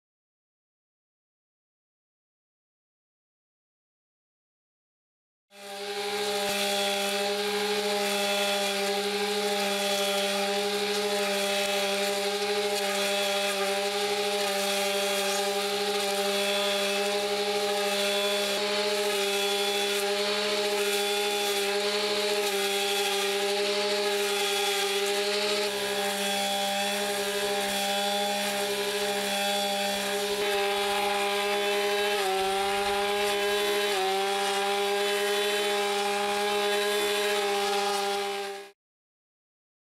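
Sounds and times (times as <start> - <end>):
nylon line mowing grass: 5.5 - 38.8
brushcutter engine running: 5.6 - 38.8.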